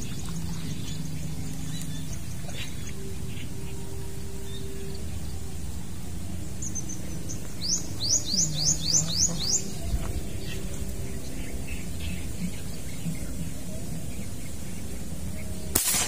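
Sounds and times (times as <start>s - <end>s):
bird singing high notes: 0.0s - 16.0s.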